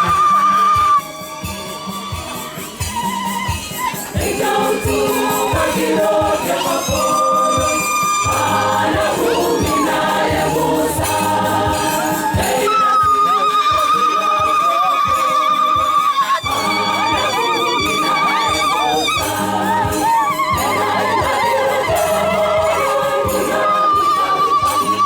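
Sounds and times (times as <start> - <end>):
jingling percussion: 0.0 - 25.0
steady drum beat: 0.0 - 25.0
choir singing a hymn: 3.9 - 25.0.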